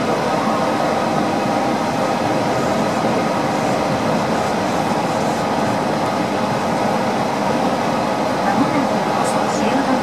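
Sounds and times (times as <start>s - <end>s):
train running noise from inside: 0.0s - 10.0s.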